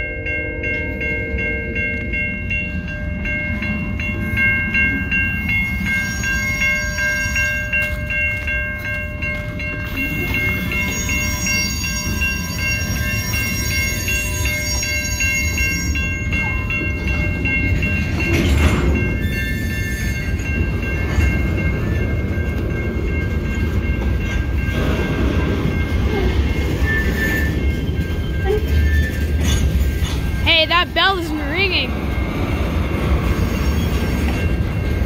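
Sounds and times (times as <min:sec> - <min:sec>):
freight train rumbling: 0:00.0 - 0:35.0
level-crossing bell ringing: 0:00.0 - 0:35.0.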